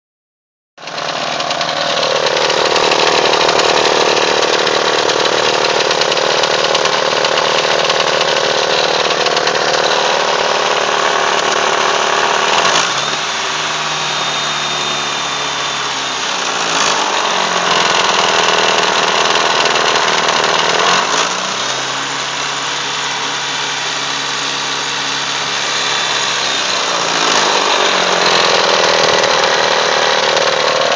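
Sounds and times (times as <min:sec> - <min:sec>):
car engine running: 0:00.8 - 0:30.9
loud engine rattle: 0:00.8 - 0:30.9.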